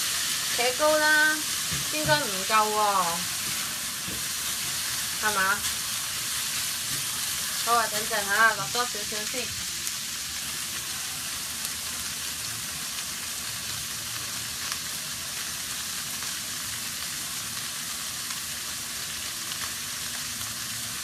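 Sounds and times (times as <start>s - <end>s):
meat and onion sizzling in pan: 0.0s - 21.0s.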